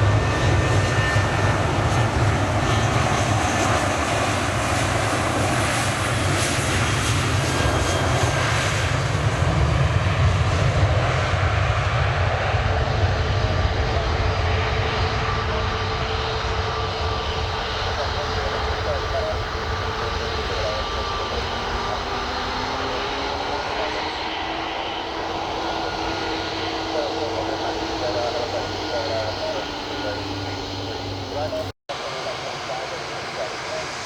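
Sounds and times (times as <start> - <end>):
airliner engines rumbling: 0.0 - 34.0.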